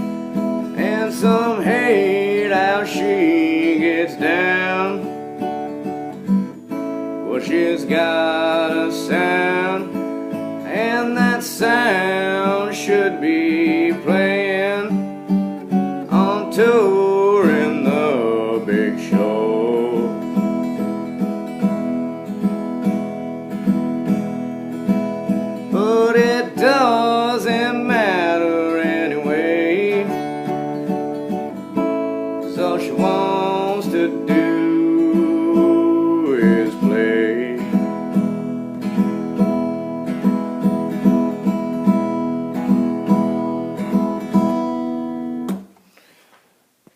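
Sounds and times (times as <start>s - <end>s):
acoustic guitar strumming: 0.0s - 46.2s.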